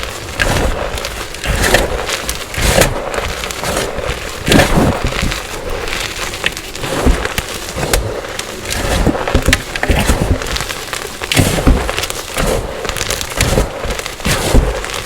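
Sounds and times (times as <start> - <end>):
chalk crunching and snapping: 0.0 - 15.0.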